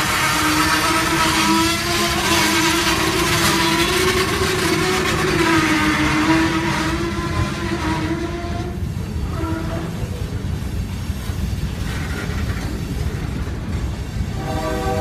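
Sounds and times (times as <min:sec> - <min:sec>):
freight train cars rolling: 0:00.0 - 0:15.0.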